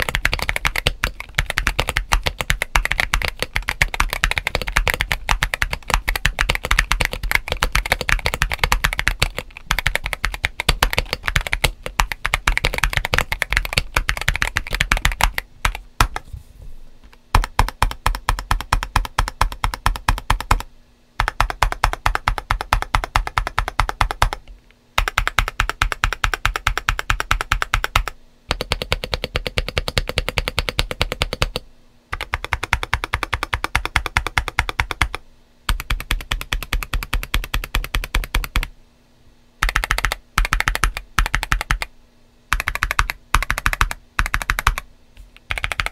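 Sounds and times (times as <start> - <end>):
fast typing on mechanical keyboard: 0.0 - 16.2, 17.3 - 24.4, 25.0 - 38.7, 39.6 - 41.9, 42.5 - 44.8, 45.5 - 45.9.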